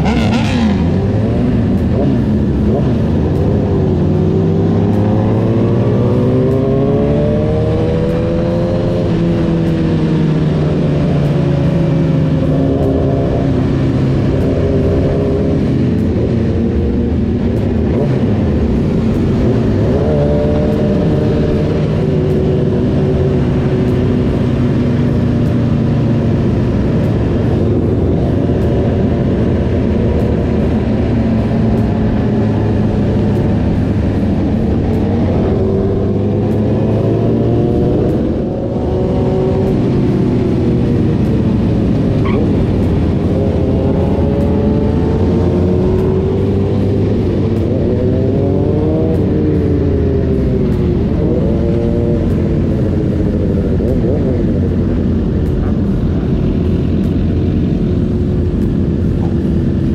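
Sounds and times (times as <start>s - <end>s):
low rumble: 0.0s - 59.9s
motorcycle engine revving: 0.0s - 59.9s.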